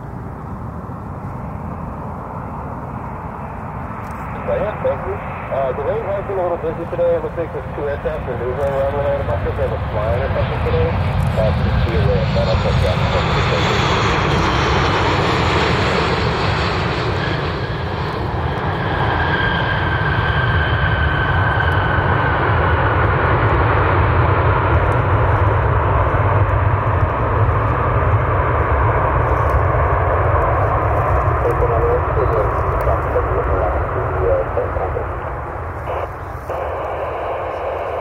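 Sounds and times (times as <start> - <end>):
jet engines roaring with whine: 0.0 - 38.0.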